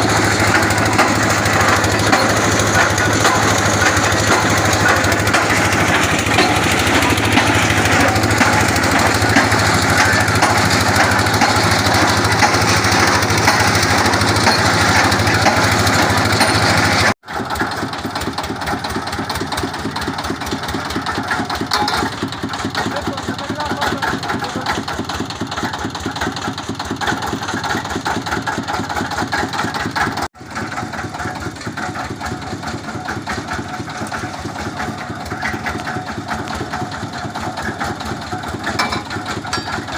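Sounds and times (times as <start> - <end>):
boring machine pounding: 0.0 - 39.9.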